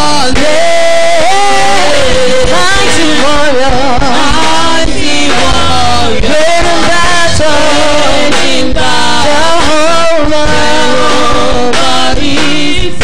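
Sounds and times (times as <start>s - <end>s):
band playing with low beat: 0.0s - 13.0s
person singing gospel melody: 0.0s - 13.0s.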